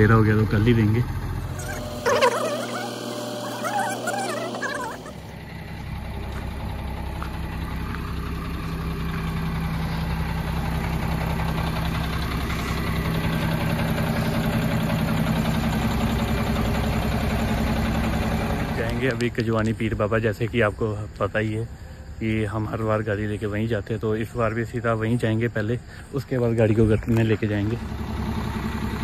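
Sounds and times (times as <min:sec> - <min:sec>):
diesel truck engine idling: 0:00.0 - 0:29.0.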